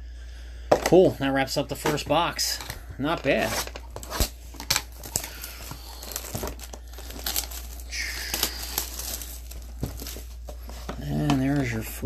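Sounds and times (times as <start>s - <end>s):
packaging crinkling and tearing: 1.7s - 11.9s.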